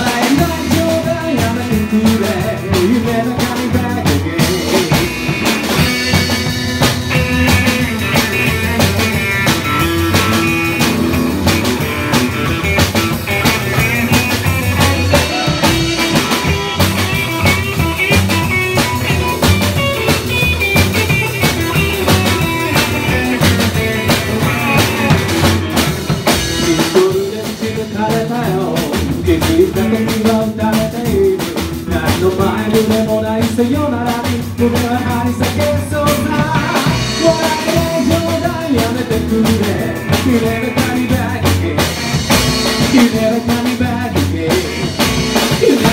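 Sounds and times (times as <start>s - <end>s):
drum kit: 0.0s - 45.9s
electric guitar: 0.0s - 45.9s
upright double bass: 0.0s - 45.9s.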